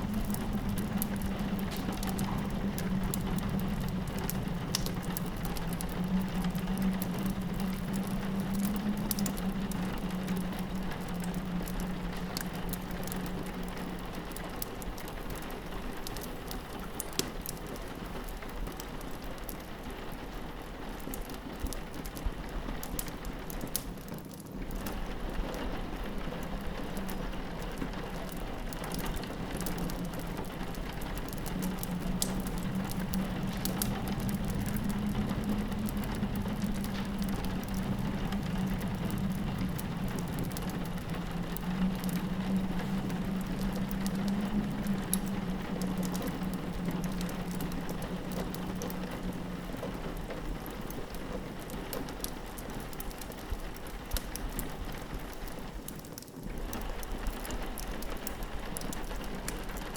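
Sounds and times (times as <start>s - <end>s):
fireplace crackling: 0.0s - 59.9s
low wind howl: 0.0s - 59.9s
rain hitting a window: 0.0s - 59.9s.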